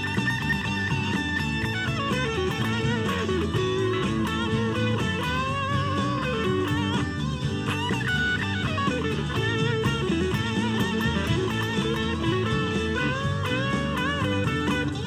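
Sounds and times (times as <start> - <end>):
bass: 0.0 - 15.0
drums: 0.0 - 15.0
electric guitar blues-rock lead: 0.0 - 15.0.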